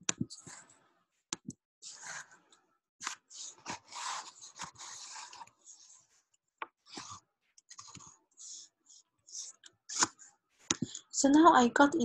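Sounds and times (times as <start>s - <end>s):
stylus tapping and scratching screen: 0.0s - 11.5s.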